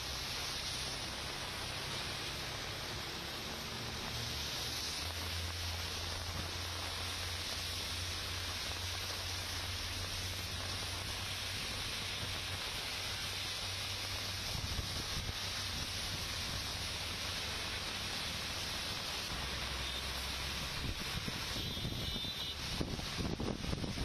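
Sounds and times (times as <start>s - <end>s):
heavy rain hissing: 0.0s - 24.0s
traffic on wet road: 0.0s - 24.0s.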